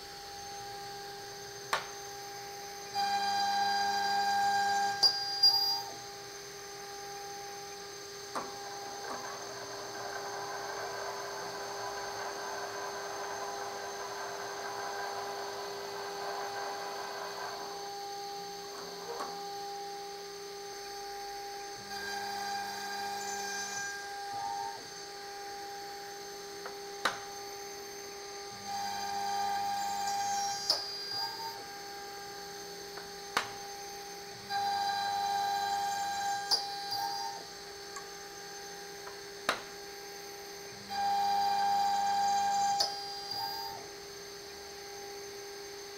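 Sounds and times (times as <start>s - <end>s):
machine spindle whining: 0.0s - 45.9s.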